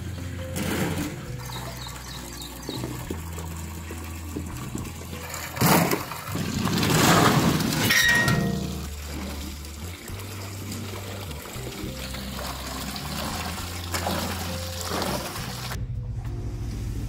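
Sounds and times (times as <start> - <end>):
water pouring from hose: 0.9 - 15.8.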